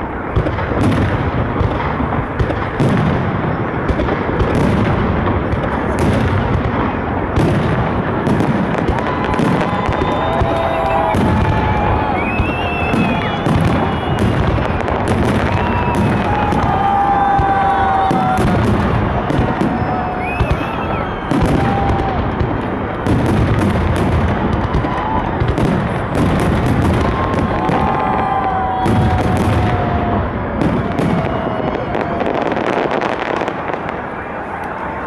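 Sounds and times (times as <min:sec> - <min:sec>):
fireworks bangs and crackling: 0:00.0 - 0:35.0
fireworks whistling: 0:00.0 - 0:35.0.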